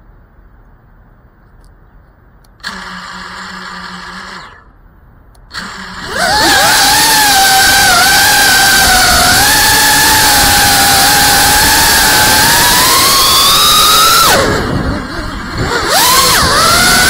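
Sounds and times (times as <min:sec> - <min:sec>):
drone motors and propellers whine: 0:02.6 - 0:04.8, 0:05.5 - 0:17.0.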